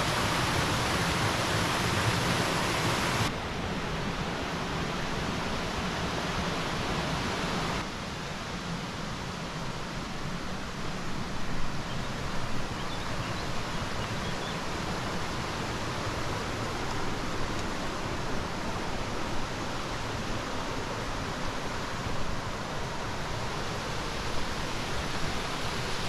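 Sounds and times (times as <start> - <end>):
water running over rocks: 0.0 - 3.3, 4.7 - 26.0.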